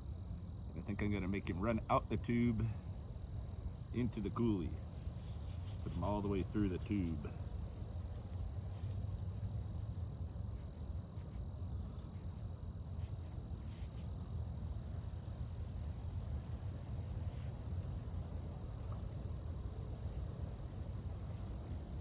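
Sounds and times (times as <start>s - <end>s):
cricket trilling: 0.0s - 22.0s
low outdoor rumble: 0.0s - 22.0s.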